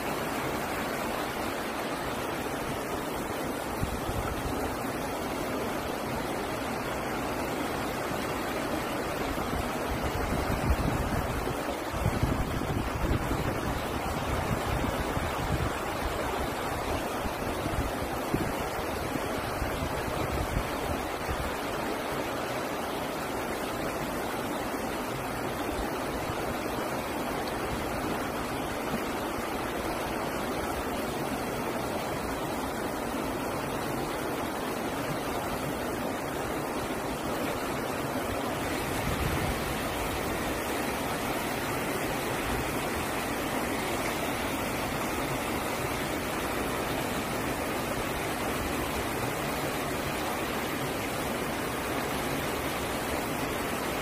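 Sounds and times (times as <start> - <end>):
sea surf against rocks: 0.0 - 54.0.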